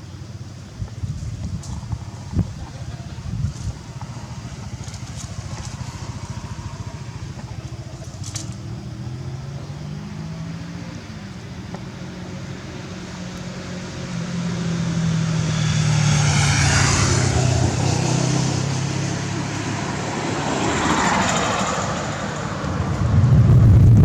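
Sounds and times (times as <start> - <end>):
engine low hum: 0.0 - 24.0
passing traffic noise: 0.0 - 24.0.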